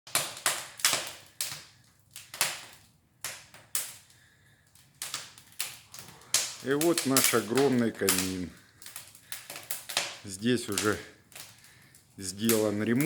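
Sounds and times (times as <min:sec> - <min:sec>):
wood fire crackling and popping: 0:00.1 - 0:13.0.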